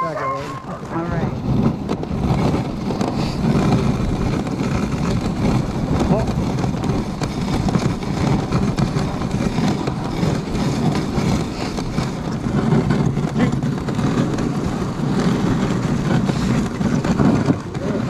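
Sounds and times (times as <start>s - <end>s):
sled knocks: 0.0s - 18.0s
sled runners scraping snow: 0.0s - 18.0s.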